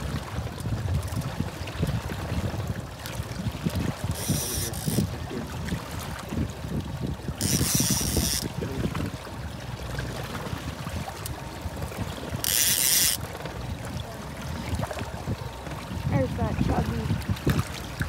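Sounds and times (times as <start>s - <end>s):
choppy water: 0.0s - 18.0s
wind rumbling on microphone: 0.0s - 18.0s.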